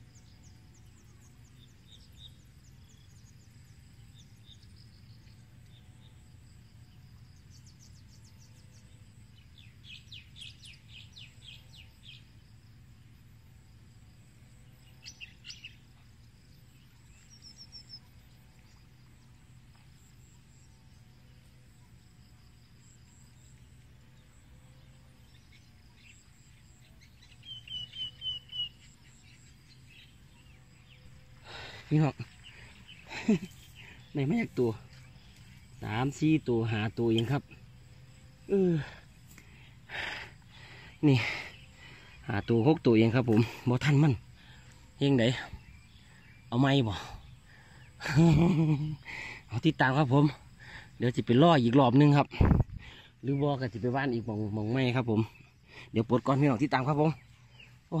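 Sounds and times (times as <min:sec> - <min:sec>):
faint low hum: 0:00.0 - 0:58.0
small birds chirping: 0:00.0 - 0:58.0.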